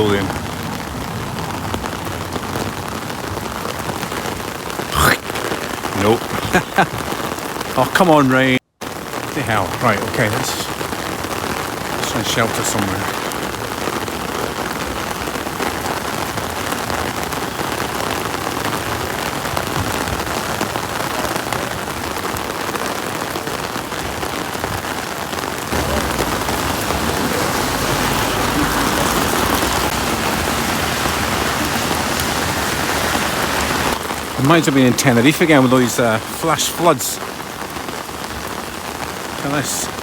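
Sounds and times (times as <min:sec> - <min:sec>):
heavy rain pouring: 0:00.0 - 0:40.0.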